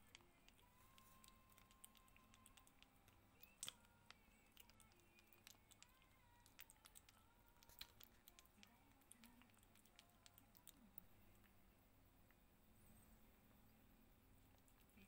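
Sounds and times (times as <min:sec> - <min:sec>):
kitten licking and lapping: 0:00.0 - 0:11.6, 0:14.4 - 0:15.0.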